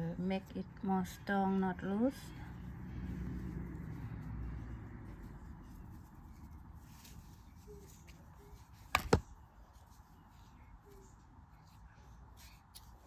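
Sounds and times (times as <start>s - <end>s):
yarn rustling: 1.0s - 13.0s.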